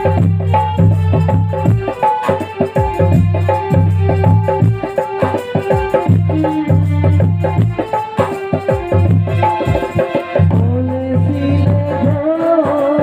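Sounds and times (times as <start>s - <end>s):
folk instrumental melody: 0.0s - 13.0s
hand drums booming: 0.0s - 13.0s.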